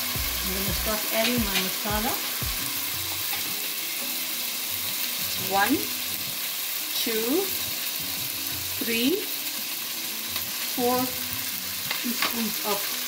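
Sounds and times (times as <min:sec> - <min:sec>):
onion sizzling in oil: 0:00.0 - 0:13.0.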